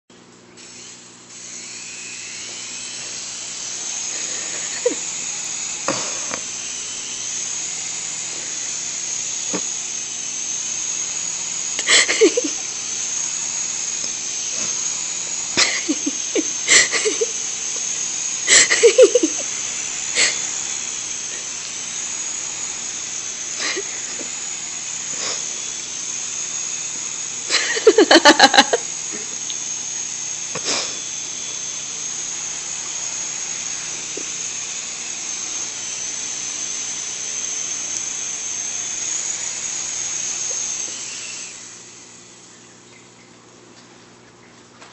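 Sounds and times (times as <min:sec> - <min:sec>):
model helicopter motor whine: 0:00.5 - 0:43.6.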